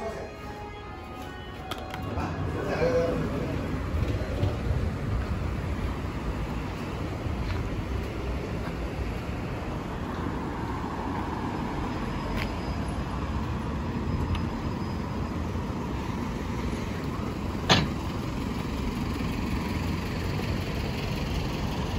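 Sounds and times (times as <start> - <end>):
road traffic rumble: 0.0 - 21.9.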